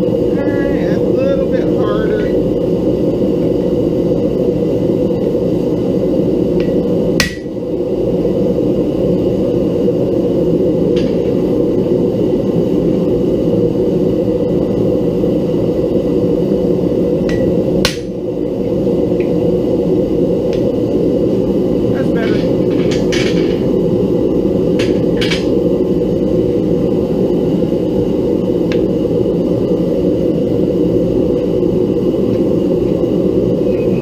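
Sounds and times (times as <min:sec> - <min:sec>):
forge burner roaring: 0:00.0 - 0:34.0.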